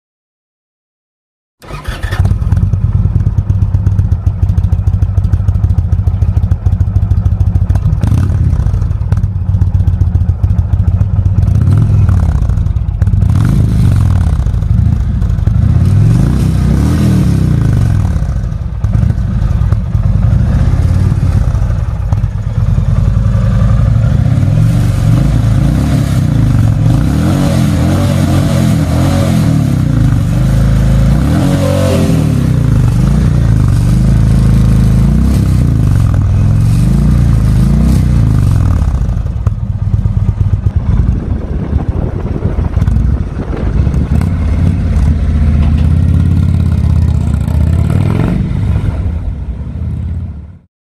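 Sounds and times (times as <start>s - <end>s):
motorcycle engine idling and revving: 1.6s - 50.7s.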